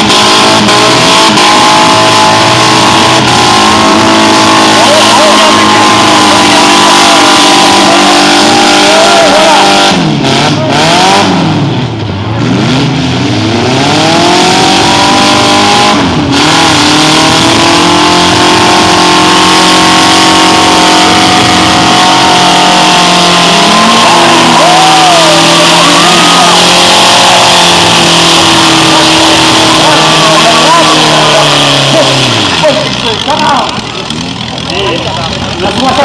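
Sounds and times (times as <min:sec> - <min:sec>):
car engines revving hard: 0:00.0 - 0:36.0.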